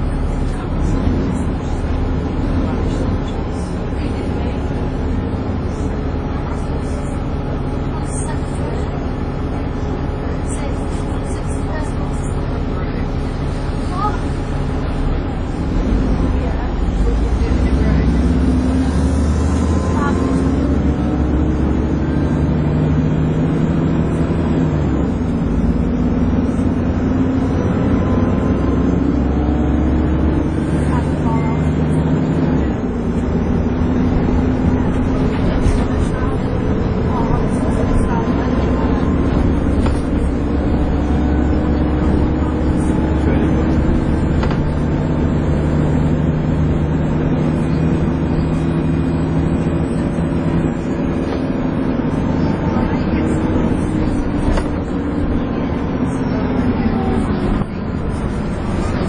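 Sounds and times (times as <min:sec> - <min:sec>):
bus engine whining: 0:00.0 - 0:59.0.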